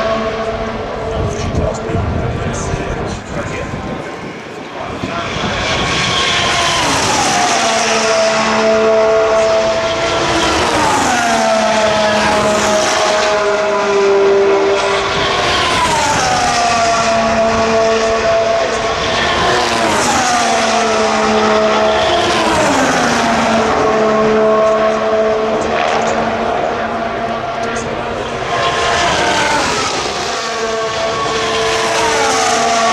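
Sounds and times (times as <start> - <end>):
race cars passing at high speed: 0.0 - 32.9.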